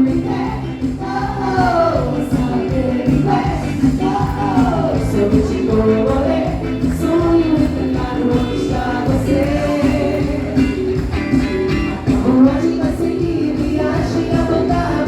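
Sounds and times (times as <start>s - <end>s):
band music with singing: 0.0s - 15.0s.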